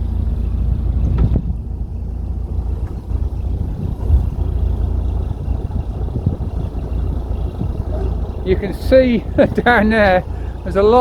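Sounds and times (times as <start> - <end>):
low rumble aboard a boat: 0.0 - 11.0.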